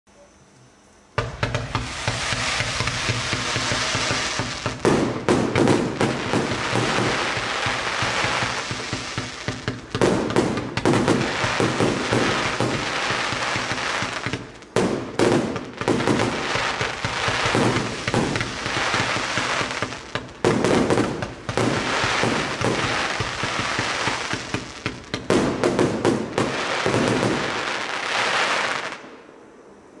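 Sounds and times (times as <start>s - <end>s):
fireworks hiss: 1.2s - 29.2s
fireworks launch shots and bursts: 1.2s - 29.3s.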